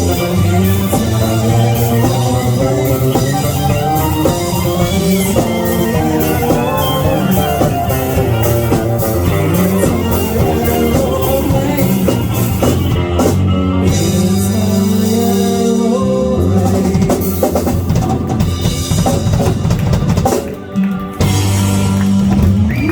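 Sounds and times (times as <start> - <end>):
rock music with drums: 0.0 - 22.9.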